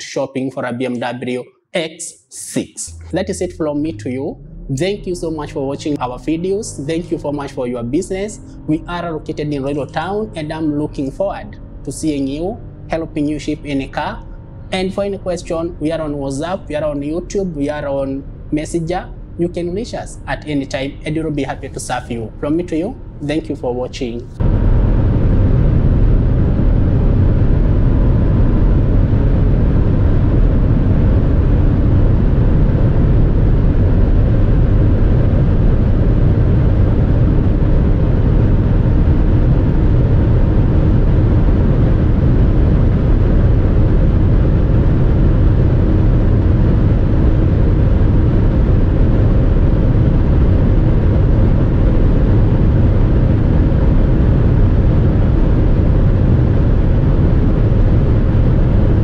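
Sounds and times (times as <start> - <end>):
car cabin road and wind noise: 3.1 - 59.0.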